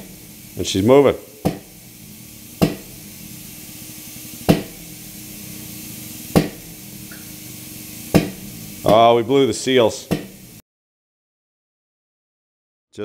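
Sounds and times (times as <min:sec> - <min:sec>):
faint hum and hiss: 0:00.0 - 0:10.6.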